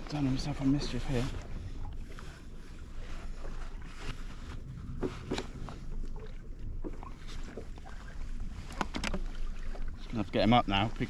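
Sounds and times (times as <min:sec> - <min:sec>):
knocks and splashes around kayak: 0:00.0 - 0:11.0.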